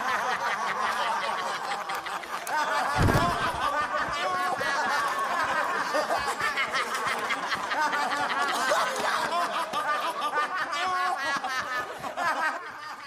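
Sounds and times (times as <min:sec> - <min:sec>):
group of men laughing: 0:00.0 - 0:13.0.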